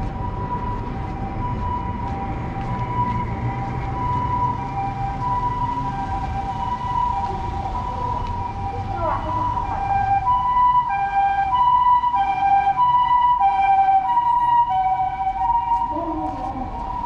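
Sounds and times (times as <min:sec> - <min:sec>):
ambulance two-tone siren: 0:00.0 - 0:17.0.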